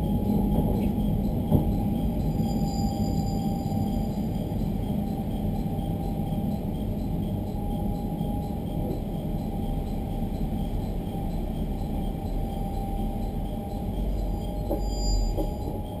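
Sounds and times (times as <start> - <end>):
faint steady tone: 0.0 - 16.0
train cabin rumble: 0.0 - 16.0.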